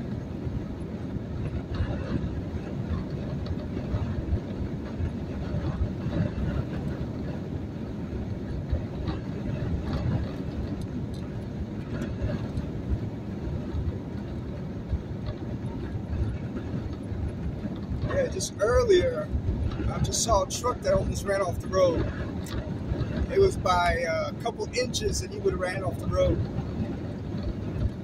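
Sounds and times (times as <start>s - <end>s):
road and engine noise: 0.0s - 28.0s
wind buffeting truck: 0.0s - 28.0s.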